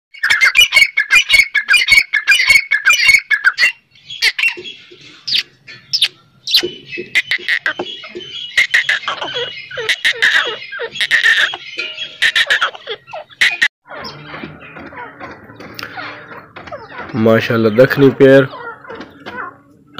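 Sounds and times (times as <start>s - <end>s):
francolins calling: 0.2s - 19.9s.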